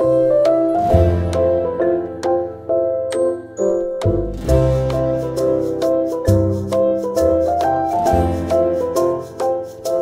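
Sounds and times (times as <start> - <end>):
light keyboard tune with beat: 0.0 - 10.0.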